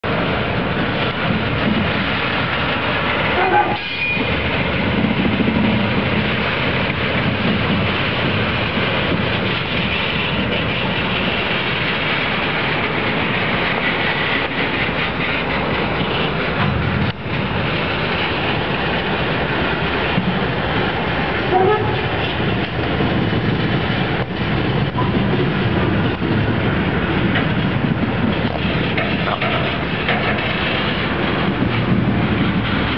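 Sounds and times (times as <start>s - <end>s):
freight train wheels on track: 0.0s - 32.9s.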